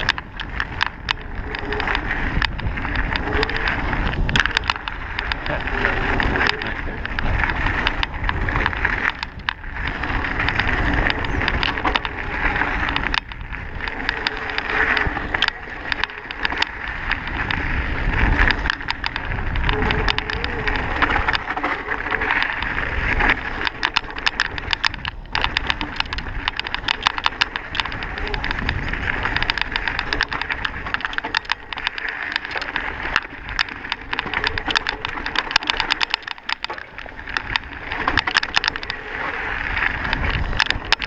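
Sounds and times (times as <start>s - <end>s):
bike rattling and knocking: 0.0s - 41.0s
tyres crunching over gravel: 0.0s - 41.0s
wind on microphone: 0.0s - 41.0s.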